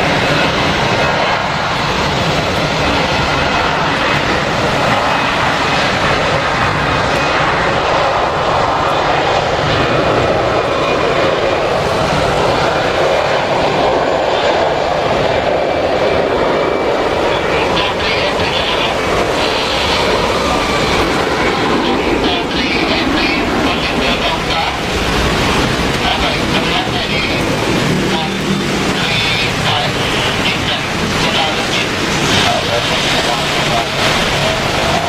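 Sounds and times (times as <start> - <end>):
heavy rain: 0.0 - 35.0
jet engines at takeoff power: 0.0 - 35.0.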